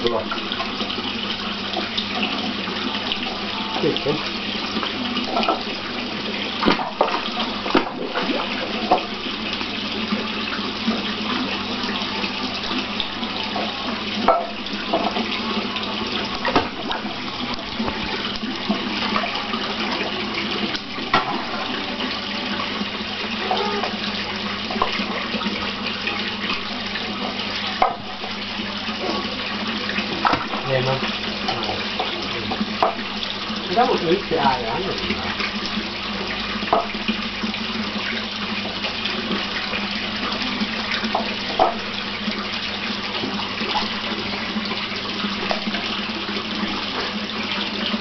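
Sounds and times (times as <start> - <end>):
running water rushing: 0.0 - 48.0.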